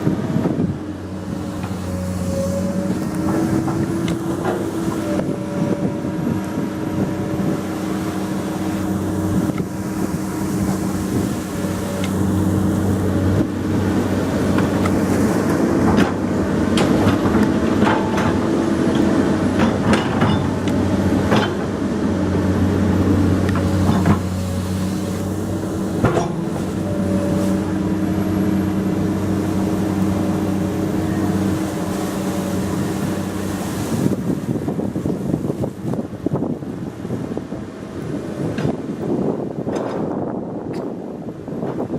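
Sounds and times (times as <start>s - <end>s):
excavator diesel engine running: 0.0s - 34.2s.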